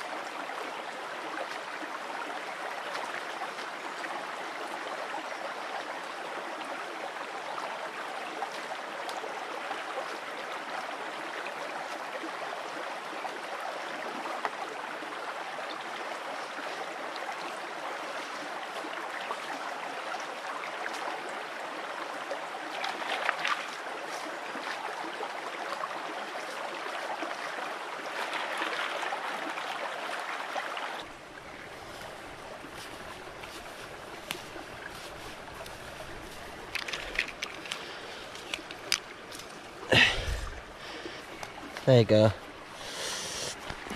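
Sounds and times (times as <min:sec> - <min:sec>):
stream running over rocks: 0:00.0 - 0:43.9.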